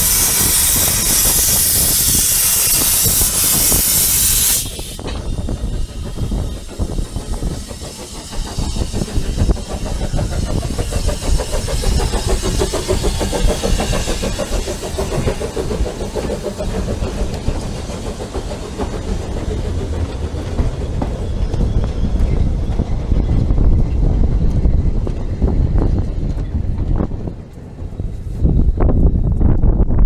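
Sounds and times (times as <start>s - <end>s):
steam train rumbling: 0.0s - 30.0s
wheel clatter on rails: 5.0s - 29.8s.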